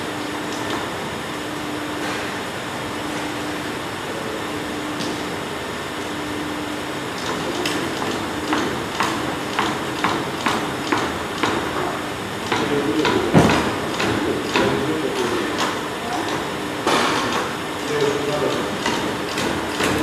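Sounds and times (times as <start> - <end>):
hydraulic crimping machine humming: 0.0 - 20.0.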